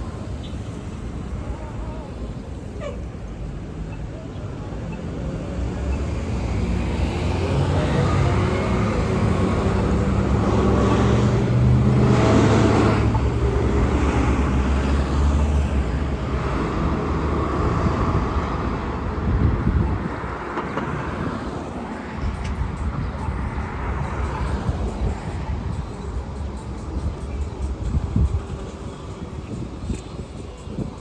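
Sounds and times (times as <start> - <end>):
diesel bus engine hum: 0.0 - 31.0
road traffic noise: 0.0 - 31.0.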